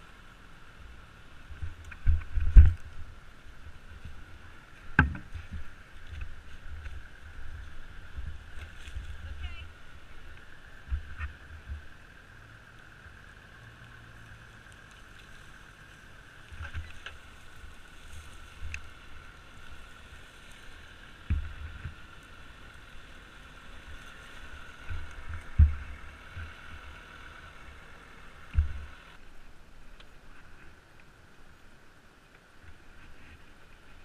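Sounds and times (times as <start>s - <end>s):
faint steady hum: 0.0s - 34.0s
dull low thumps and rumbles: 0.7s - 29.2s.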